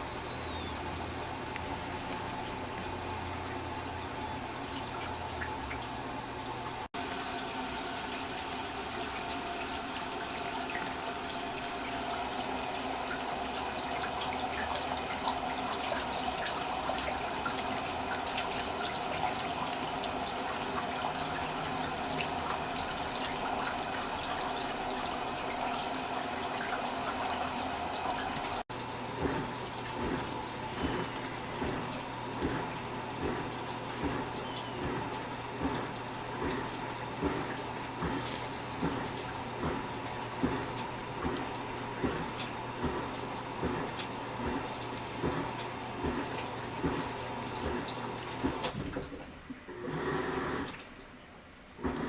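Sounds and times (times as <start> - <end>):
washing machine water rushing: 0.0 - 52.0.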